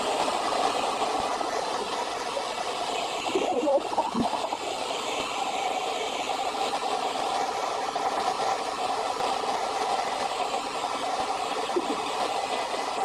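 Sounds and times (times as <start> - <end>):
shower spray hissing: 0.0 - 13.0.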